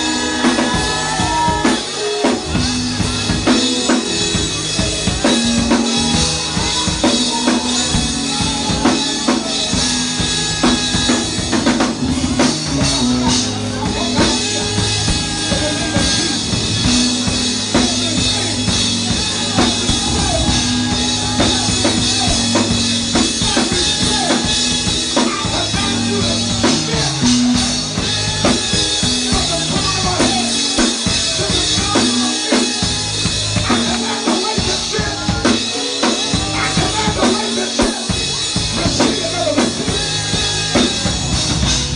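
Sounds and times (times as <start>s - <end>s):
live band music: 0.0s - 41.9s.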